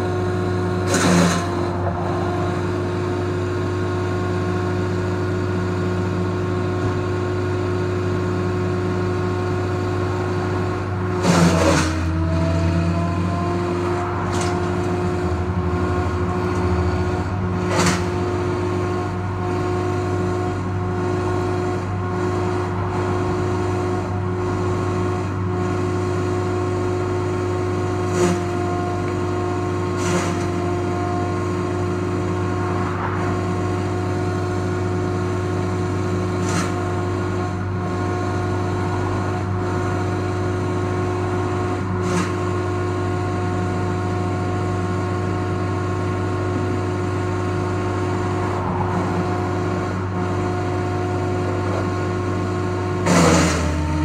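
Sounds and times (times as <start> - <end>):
wood chipper engine droning: 0.0 - 54.0.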